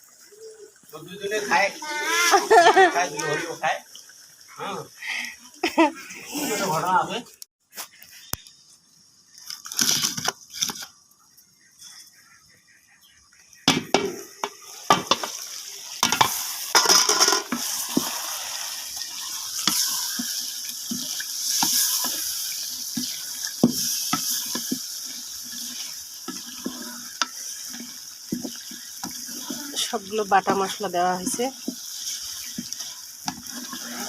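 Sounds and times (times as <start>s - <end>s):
chicken sizzling in a pot: 0.0s - 7.2s, 7.8s - 34.0s.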